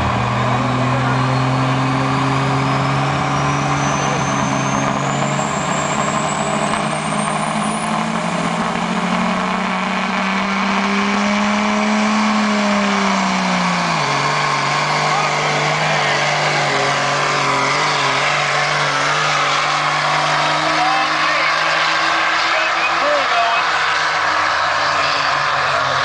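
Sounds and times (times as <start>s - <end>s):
diesel engine at high revs: 0.0s - 26.0s.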